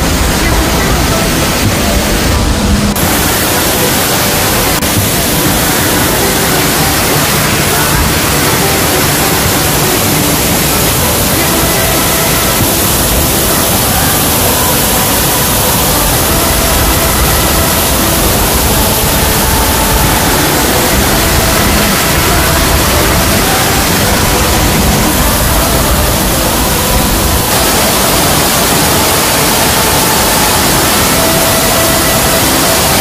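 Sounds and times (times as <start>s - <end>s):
faint steady tones: 0.0s - 33.0s
waterfall rushing onto rocks: 0.0s - 33.0s.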